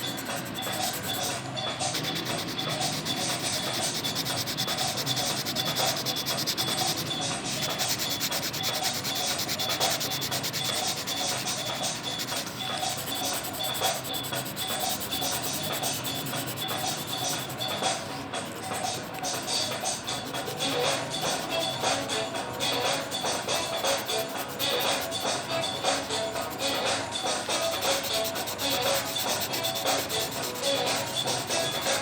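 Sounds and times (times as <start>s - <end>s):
drawing tool rubbing on paper: 0.0s - 32.0s.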